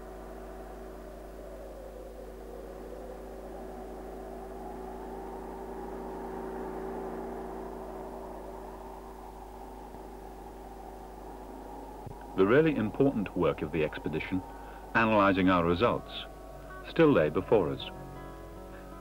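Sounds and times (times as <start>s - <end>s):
vehicle engines droning: 2.7s - 19.0s.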